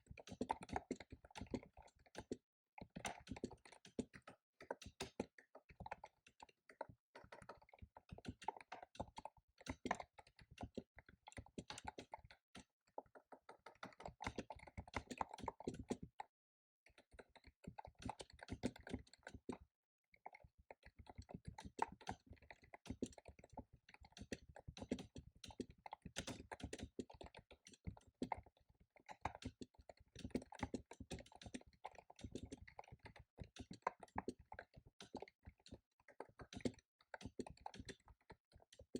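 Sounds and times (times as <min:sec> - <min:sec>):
fast typing on computer keyboard: 0:00.0 - 0:16.3, 0:16.9 - 0:19.6, 0:20.2 - 0:38.9.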